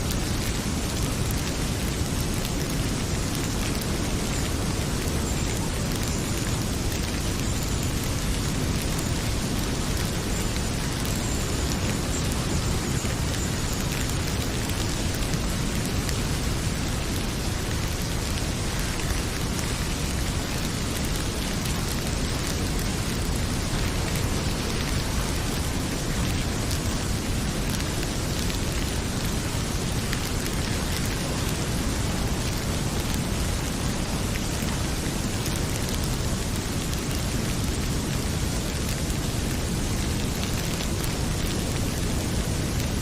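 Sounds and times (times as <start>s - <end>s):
heavy rain pouring: 0.0s - 43.0s
wood fire crackling: 0.0s - 43.0s.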